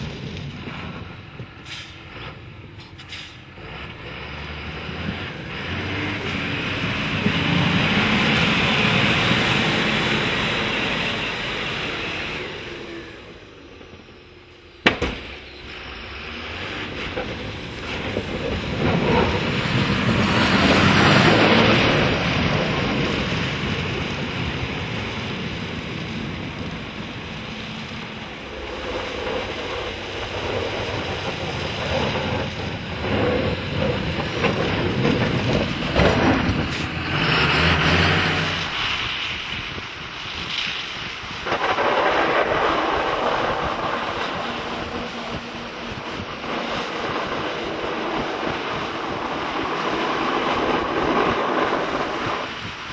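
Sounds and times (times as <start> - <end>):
tractor diesel engine: 0.0 - 52.9.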